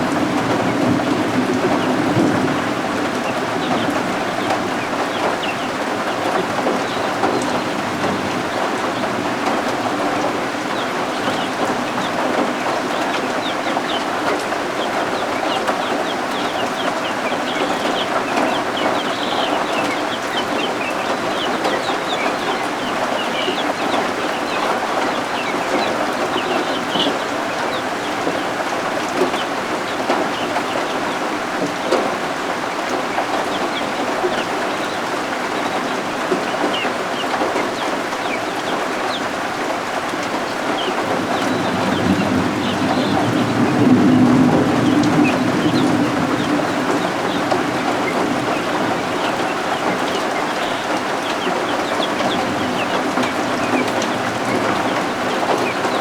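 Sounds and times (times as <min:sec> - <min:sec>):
chicks peeping: 0:00.0 - 0:56.0
rain hiss: 0:00.0 - 0:56.0.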